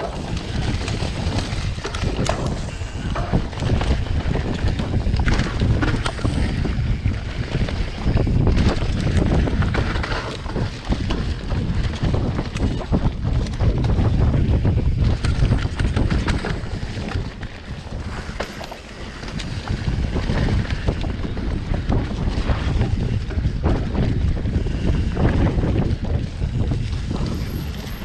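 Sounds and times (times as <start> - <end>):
bike rattling over rough ground: 0.0 - 28.0
wind buffeting microphone: 0.0 - 28.0.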